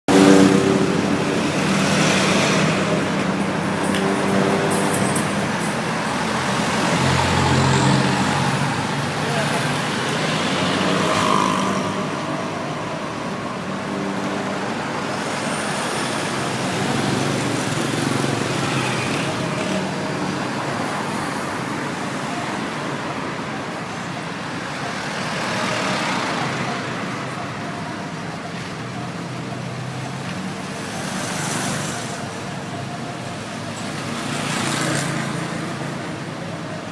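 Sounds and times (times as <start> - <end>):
road traffic engine hum: 0.0 - 36.9
vehicles passing by: 0.1 - 36.9.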